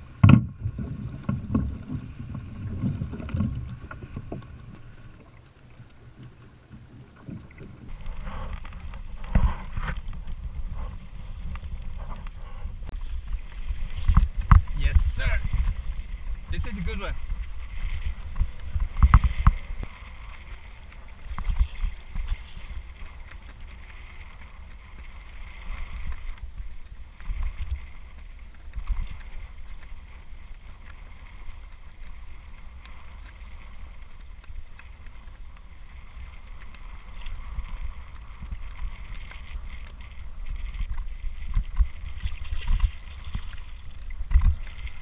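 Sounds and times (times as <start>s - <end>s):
waves lapping against kayak hull: 0.0s - 45.0s
wind buffeting microphone: 7.0s - 45.0s.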